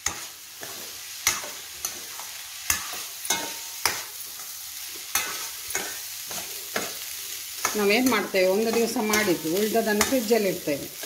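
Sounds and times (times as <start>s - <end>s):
faint steady sizzle: 0.0s - 11.0s.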